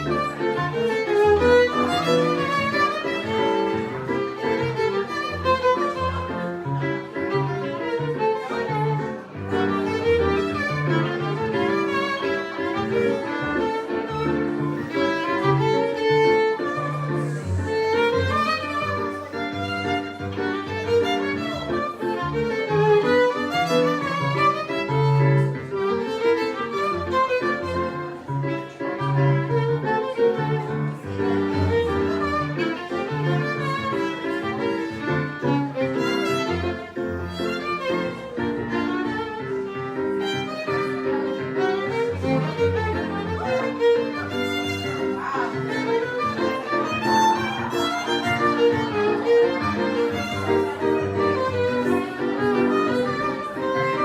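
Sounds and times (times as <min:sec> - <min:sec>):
piano bass and chords: 0:00.0 - 0:54.0
violin melody: 0:00.0 - 0:54.0.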